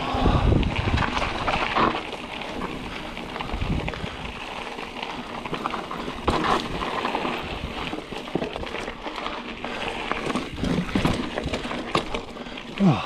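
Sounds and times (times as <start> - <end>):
bike tyres rolling on dirt: 0.0 - 13.0
bike rattles and knocks: 0.2 - 13.0.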